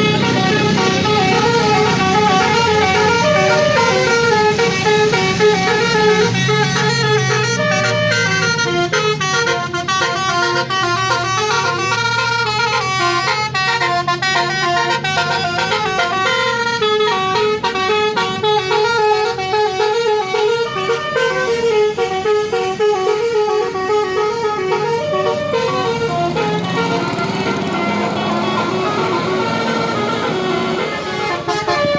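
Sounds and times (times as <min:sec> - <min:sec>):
musical horn playing melody: 0:00.0 - 0:31.9.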